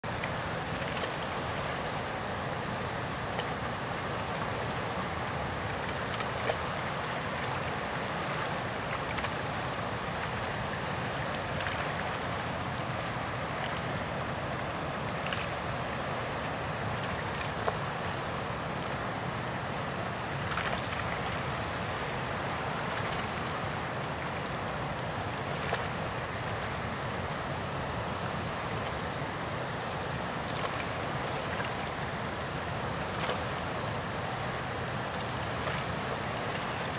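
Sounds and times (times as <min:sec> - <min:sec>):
outdoor background hiss: 0:00.0 - 0:36.9.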